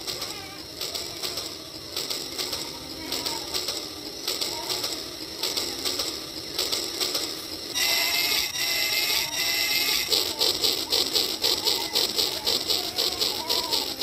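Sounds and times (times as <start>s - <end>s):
toy train whirring and clicking: 0.0s - 14.0s
high whine: 1.5s - 14.0s.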